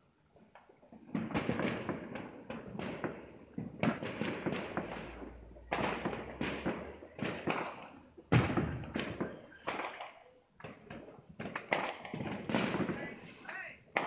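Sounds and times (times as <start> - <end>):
fireworks cracks and bangs: 0.0 - 14.0.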